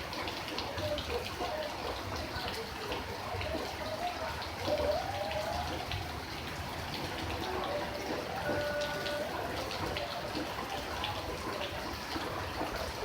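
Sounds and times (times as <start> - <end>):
steady rain with ticking drops: 0.0 - 13.0.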